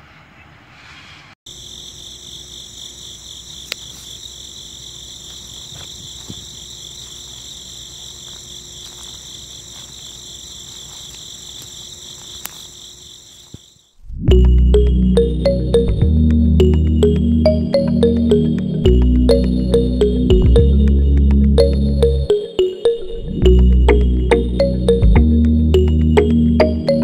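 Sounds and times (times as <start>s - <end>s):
crickets chirping: 1.5s - 27.0s.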